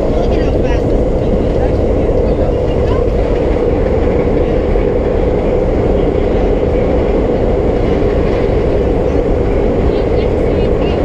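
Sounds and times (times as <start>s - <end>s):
subway car wheels roaring: 0.0s - 11.0s.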